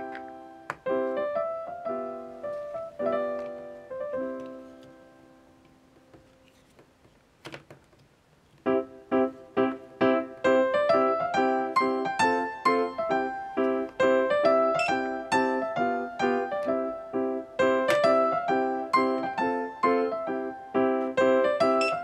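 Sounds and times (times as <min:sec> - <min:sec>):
piano chords: 0:00.0 - 0:06.5, 0:08.6 - 0:22.0.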